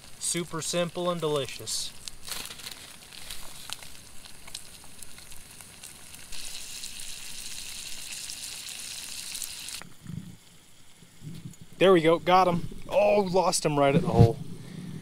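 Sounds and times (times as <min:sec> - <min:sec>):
fish sizzling in butter: 0:00.0 - 0:13.5.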